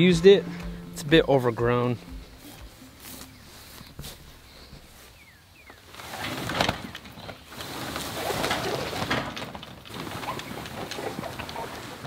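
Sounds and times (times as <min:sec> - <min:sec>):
rustling and scraping through grass: 0:02.3 - 0:12.0.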